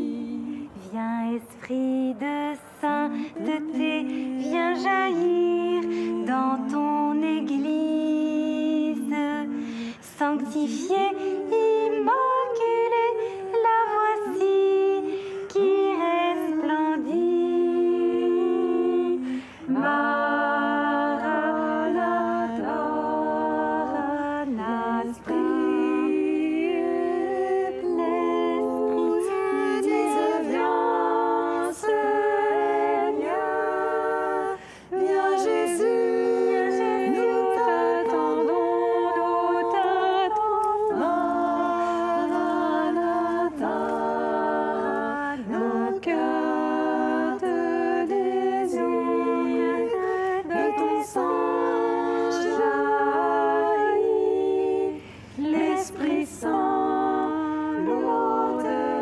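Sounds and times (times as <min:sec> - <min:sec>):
a cappella group singing: 0:00.0 - 0:59.0.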